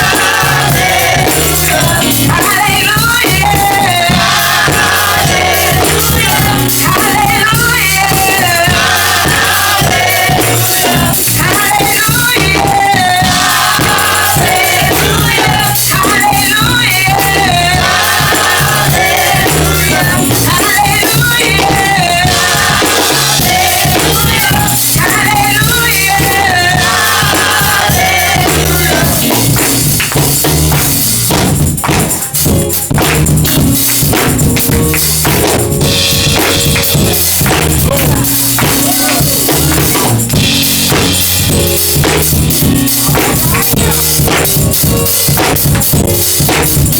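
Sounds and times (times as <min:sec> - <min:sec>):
gospel singing over band: 0:00.0 - 0:46.9
sharp drum kit hits: 0:00.0 - 0:46.9
tambourine shaken: 0:00.0 - 0:46.9.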